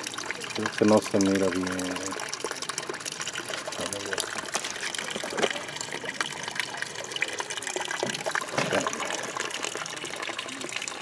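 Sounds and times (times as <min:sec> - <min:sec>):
small water splashes: 0:00.0 - 0:11.0
spring water trickling: 0:00.0 - 0:11.0.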